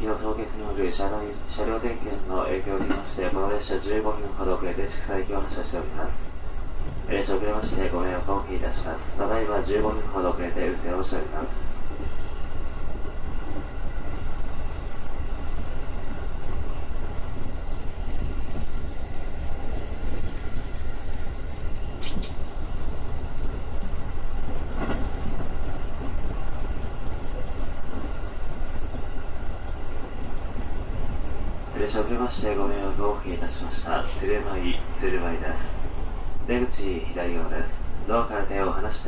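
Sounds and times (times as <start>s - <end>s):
train low rumble: 0.0s - 39.0s.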